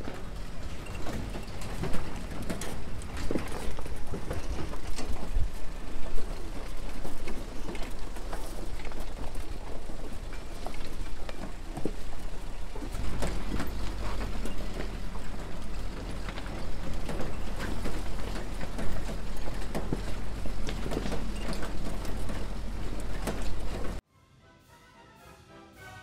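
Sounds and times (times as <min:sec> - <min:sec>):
rattles and knocks: 0:00.0 - 0:24.0
vehicle rumbling over rough ground: 0:00.0 - 0:24.0.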